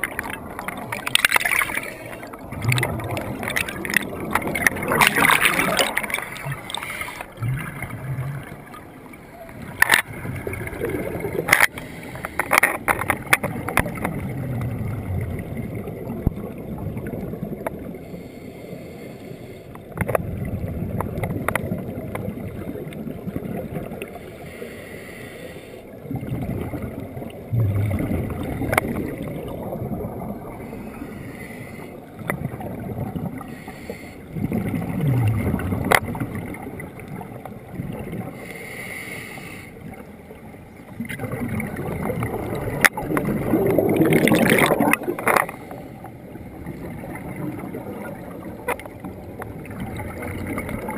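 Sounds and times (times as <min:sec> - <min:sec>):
bubbles rumbling: 0:00.0 - 0:11.7, 0:12.8 - 0:18.0, 0:19.9 - 0:24.2, 0:26.0 - 0:30.9, 0:32.1 - 0:33.5, 0:34.3 - 0:38.4, 0:39.9 - 0:50.9
muffled underwater water rush: 0:00.0 - 0:50.9.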